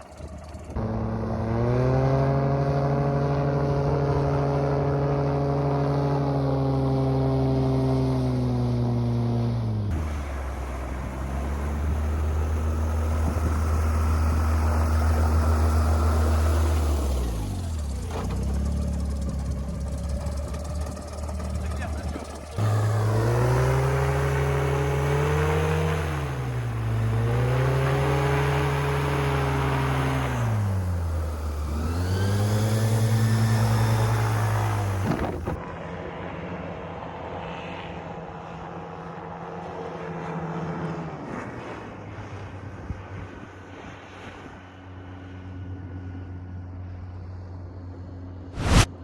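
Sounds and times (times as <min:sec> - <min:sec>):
airboat engine and propeller: 0:00.0 - 0:49.0.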